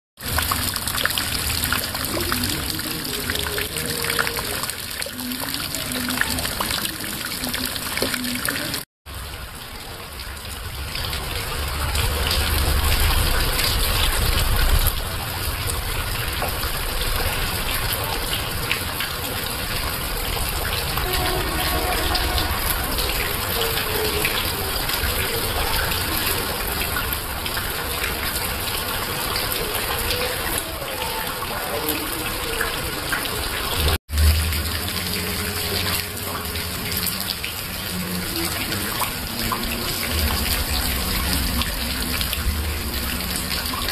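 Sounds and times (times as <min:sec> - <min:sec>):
heavy rain: 0:00.2 - 0:43.9
rainwater pouring onto leaves: 0:00.2 - 0:43.9
stream water over rocks: 0:00.2 - 0:43.9.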